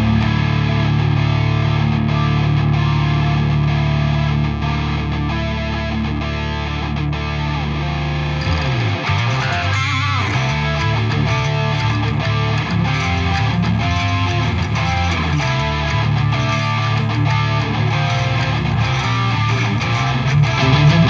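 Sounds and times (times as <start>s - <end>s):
electric guitars playing a riff: 0.0s - 21.0s.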